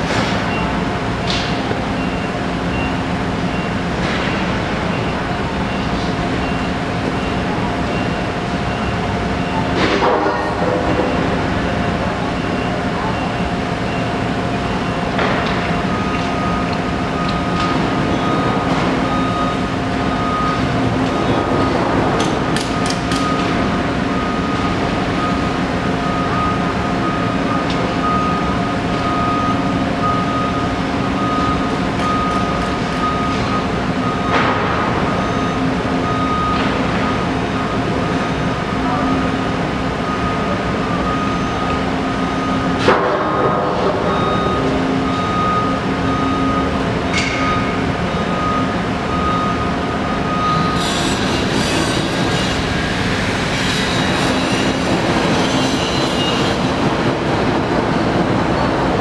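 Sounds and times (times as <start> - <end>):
constant hum: 0.0 - 59.0
construction machinery drone: 0.0 - 59.0
street traffic: 0.0 - 59.0.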